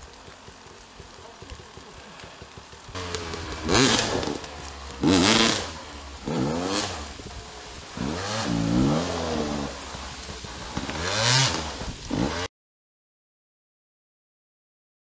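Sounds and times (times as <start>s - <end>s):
dirt bike engines revving hard: 0.0s - 12.5s.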